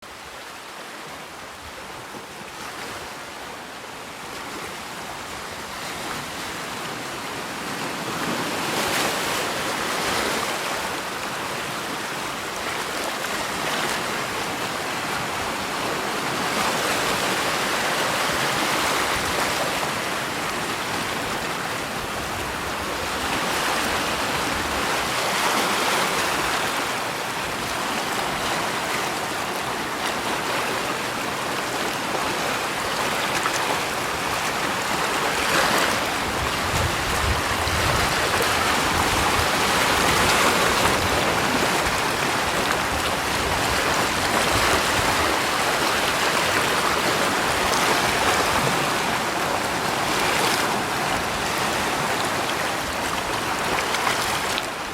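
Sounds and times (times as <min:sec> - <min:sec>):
rushing water: 0:00.0 - 0:54.9.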